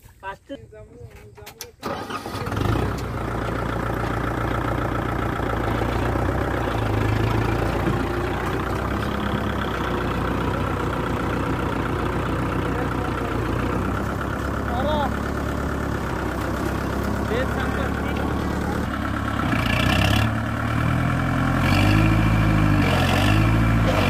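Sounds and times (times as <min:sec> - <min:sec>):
tractor diesel engine idling: 0:01.0 - 0:24.0.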